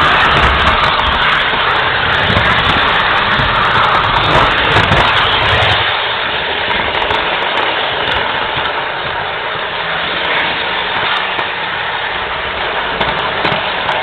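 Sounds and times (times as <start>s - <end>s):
model train rumbling on rails: 0.0s - 14.0s.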